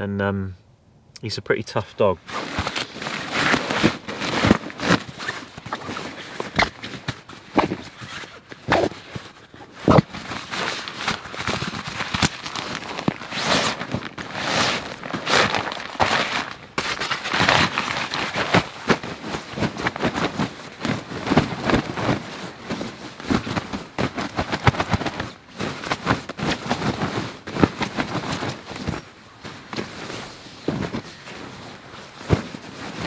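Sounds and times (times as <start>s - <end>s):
sleeping bag fabric rustling: 2.2s - 33.0s.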